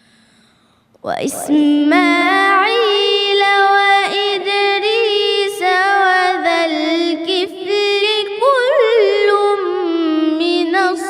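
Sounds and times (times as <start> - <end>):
person reciting melodically: 1.0 - 11.0.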